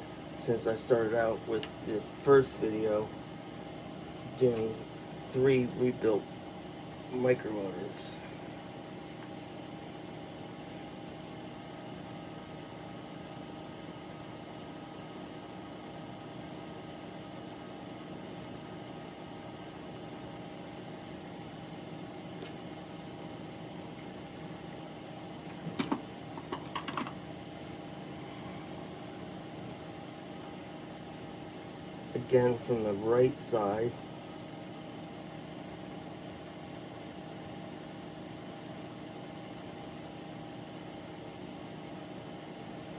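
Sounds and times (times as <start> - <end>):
machine hum: 0.0 - 42.9.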